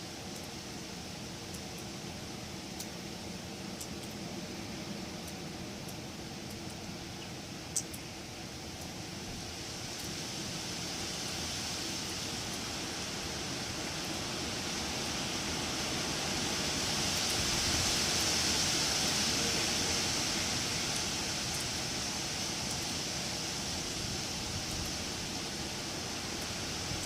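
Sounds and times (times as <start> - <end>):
wind rushing through foliage: 0.0 - 27.0.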